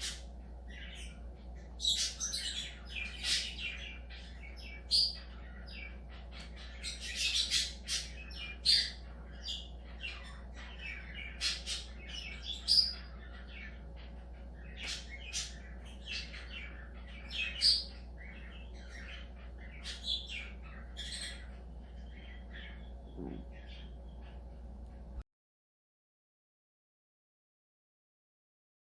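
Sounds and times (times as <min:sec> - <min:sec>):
budgerigars chirping and chattering: 0:00.0 - 0:25.2.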